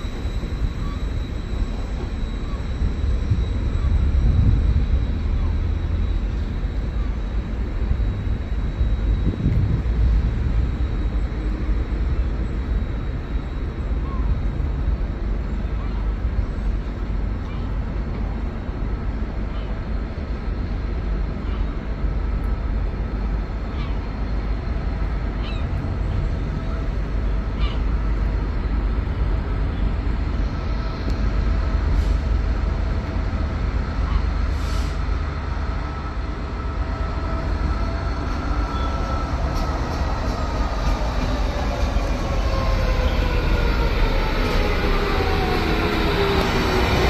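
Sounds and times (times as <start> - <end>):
train low rumble: 0.0 - 47.0
train whine falling in pitch: 0.0 - 47.0.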